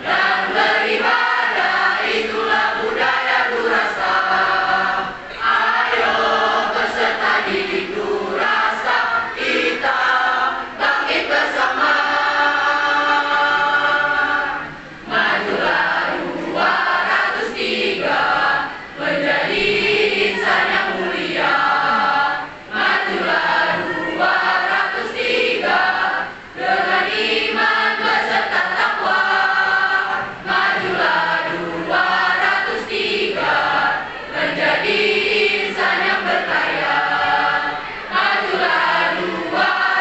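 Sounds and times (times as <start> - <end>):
choir singing a march: 0.0 - 40.0.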